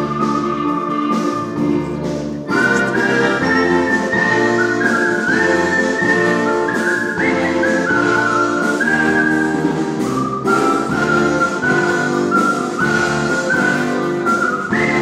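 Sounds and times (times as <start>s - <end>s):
person whistling a melody: 0.0s - 1.8s, 2.5s - 15.0s
instrumental backing with bass: 0.0s - 15.0s.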